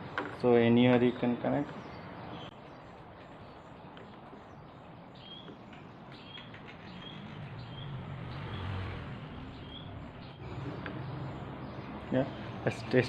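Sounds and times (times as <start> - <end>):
small birds chirping: 0.4 - 13.0.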